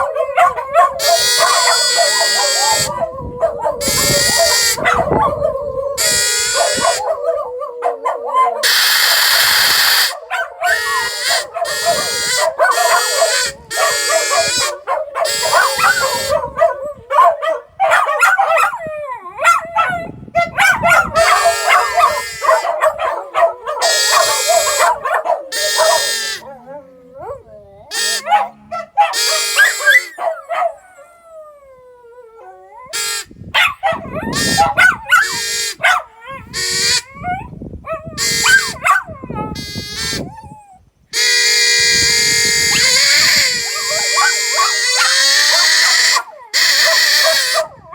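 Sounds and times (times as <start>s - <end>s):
dogs yipping and barking: 0.0s - 31.2s, 32.4s - 40.7s, 42.7s - 47.9s
dogs howling: 0.0s - 33.0s, 33.6s - 39.6s, 42.7s - 47.9s.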